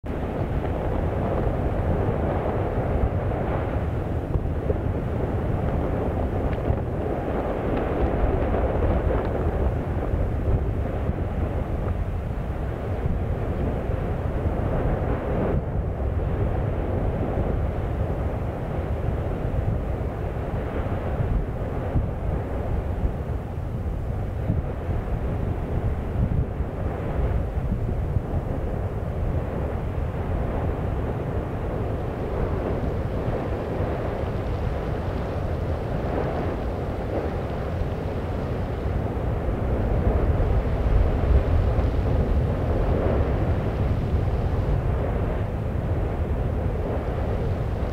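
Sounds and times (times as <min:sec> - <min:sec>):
wind buffeting microphone: 0:00.0 - 0:47.9
volcano rumbling: 0:00.1 - 0:47.9.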